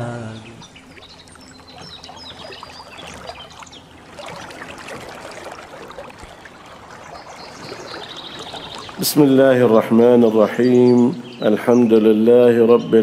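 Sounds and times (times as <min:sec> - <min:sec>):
water trickling: 0:00.0 - 0:12.4
birds chirping: 0:00.0 - 0:13.0.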